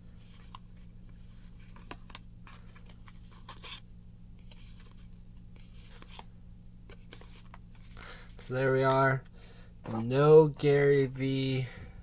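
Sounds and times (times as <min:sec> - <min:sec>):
steady low hum: 0:00.0 - 0:12.0
trading cards clicking and rustling: 0:00.2 - 0:03.8, 0:04.4 - 0:06.3, 0:06.9 - 0:11.4.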